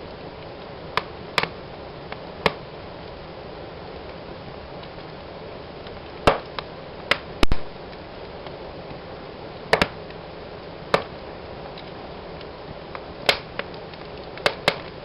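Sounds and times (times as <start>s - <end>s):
burning logs crackling and popping: 0.0s - 15.0s
wood fire hissing: 0.0s - 15.0s.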